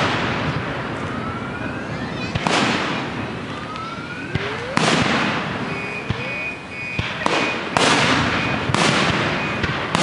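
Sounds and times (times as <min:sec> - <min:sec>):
fireworks bursting with echo: 0:00.0 - 0:10.0.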